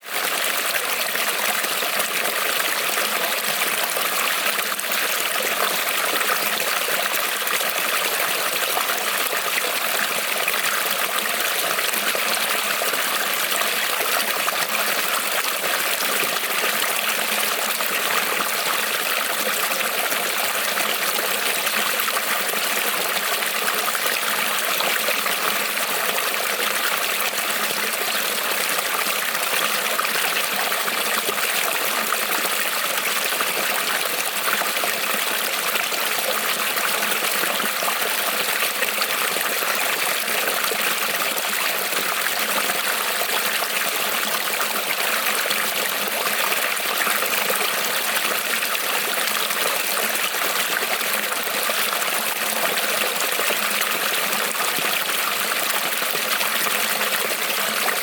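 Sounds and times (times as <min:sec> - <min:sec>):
creek water babbling over stones: 0:00.0 - 0:58.0.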